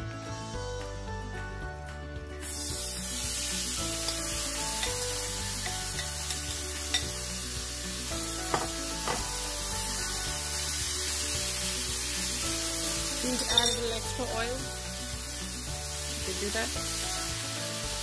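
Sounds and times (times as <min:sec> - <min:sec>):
chicken sizzling in a pan: 0:02.4 - 0:18.0.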